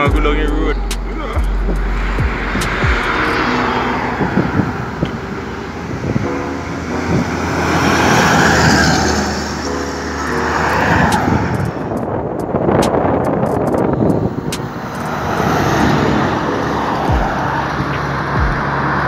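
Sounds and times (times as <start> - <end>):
truck driving past: 0.6 - 12.1, 13.8 - 19.0.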